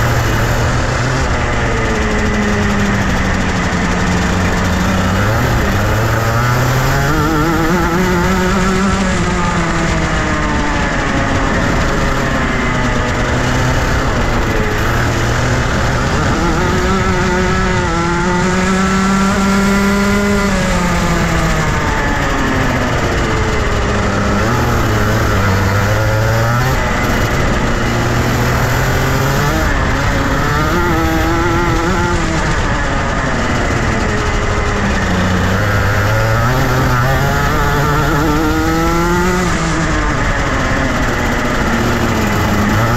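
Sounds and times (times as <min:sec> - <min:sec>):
kart engine revving: 0:00.0 - 0:42.9.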